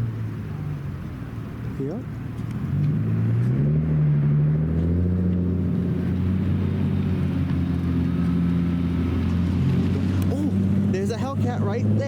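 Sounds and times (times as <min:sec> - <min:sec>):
car engine at raised revs: 0:00.0 - 0:12.0.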